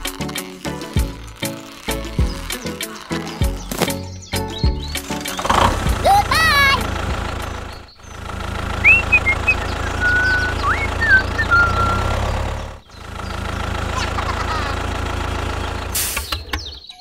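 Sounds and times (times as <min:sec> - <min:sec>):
tractor engine idling: 0:00.1 - 0:16.8.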